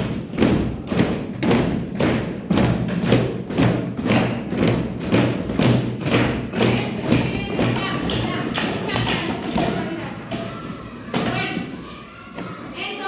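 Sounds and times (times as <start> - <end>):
children thumping a steady beat: 0.0 - 13.0.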